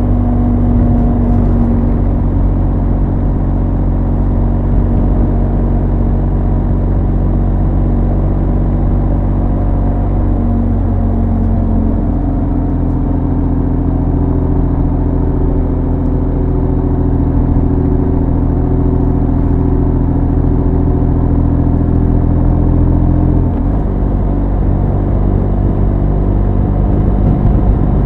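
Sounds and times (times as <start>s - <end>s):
motorcycle engine and exhaust: 0.0s - 28.0s.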